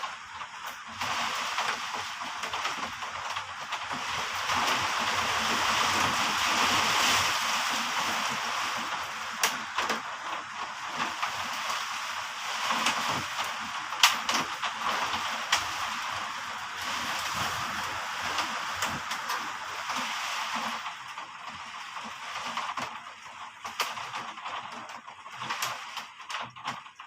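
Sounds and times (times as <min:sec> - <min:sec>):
heavy rain in wind: 0:00.0 - 0:27.0.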